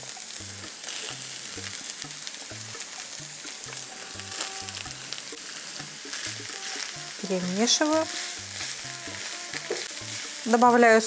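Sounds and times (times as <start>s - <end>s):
mushrooms sizzling in frying pan: 0.0s - 11.0s.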